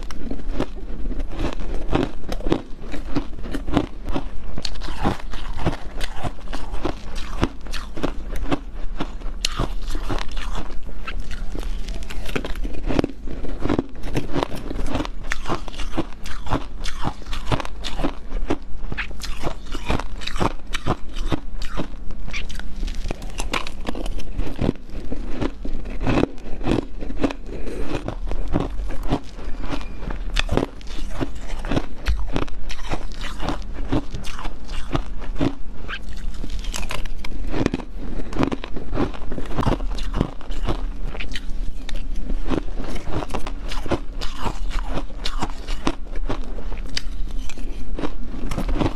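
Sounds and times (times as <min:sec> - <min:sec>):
person chewing crunchy ice: 0:00.0 - 0:48.9.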